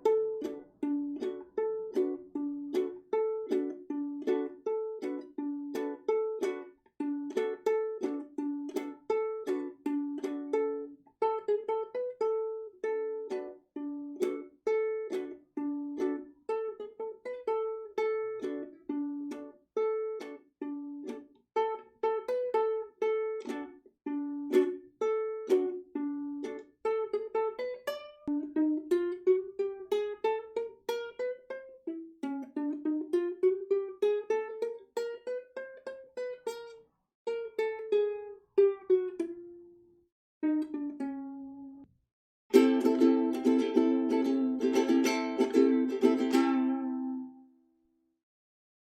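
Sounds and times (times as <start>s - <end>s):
ukulele plucked notes: 0.0s - 47.7s.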